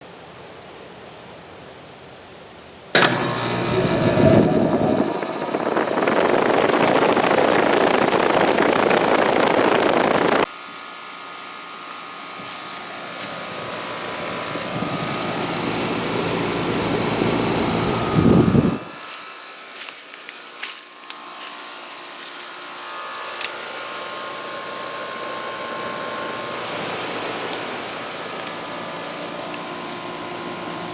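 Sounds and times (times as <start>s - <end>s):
heat pump humming: 2.9s - 30.9s.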